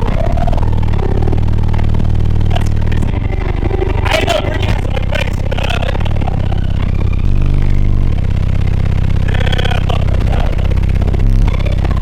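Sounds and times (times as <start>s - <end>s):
deep bass line from subwoofer: 0.0s - 12.0s.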